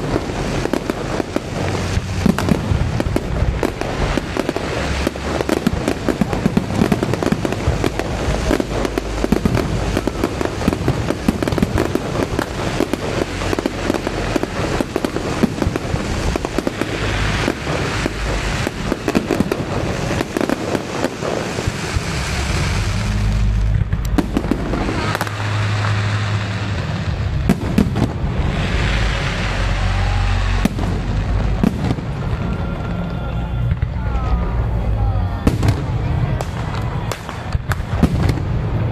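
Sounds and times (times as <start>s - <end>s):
fireworks crackling and popping: 0.0s - 38.9s
fireworks deep booms: 0.0s - 38.9s.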